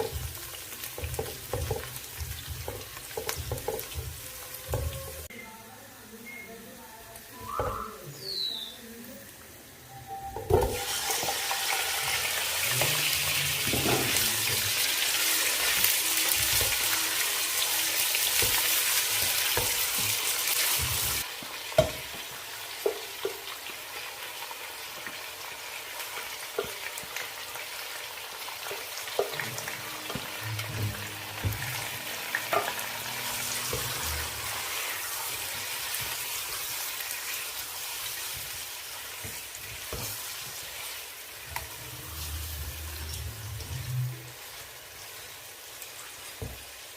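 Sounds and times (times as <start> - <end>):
food sizzling in a pan: 0.0 - 5.3, 6.6 - 46.9.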